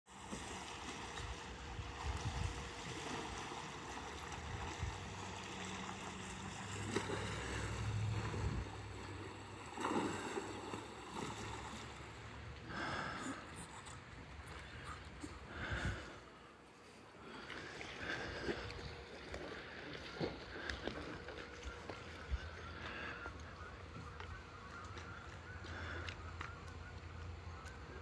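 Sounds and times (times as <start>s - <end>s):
wind: 0.0s - 28.0s
rushing water: 0.1s - 28.0s.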